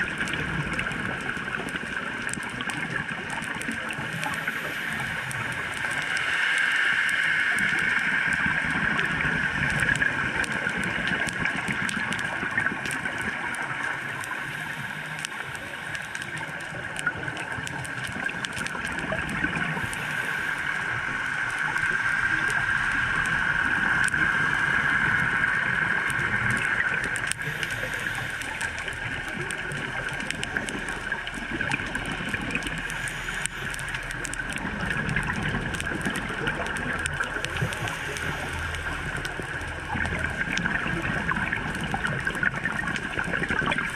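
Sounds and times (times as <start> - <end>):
muffled underwater hiss: 0.0 - 43.9.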